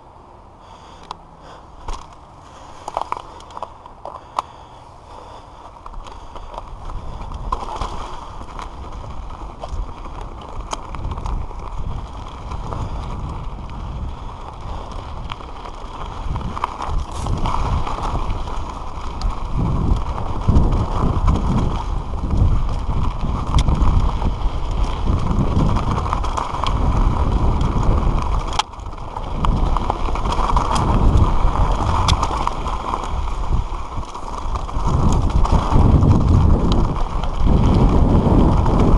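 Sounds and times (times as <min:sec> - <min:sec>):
bike tyres crunching over ground: 0:00.0 - 0:38.9
bike knocks and rattles: 0:01.8 - 0:04.6, 0:05.9 - 0:38.9
wind buffeting microphone: 0:01.8 - 0:38.9.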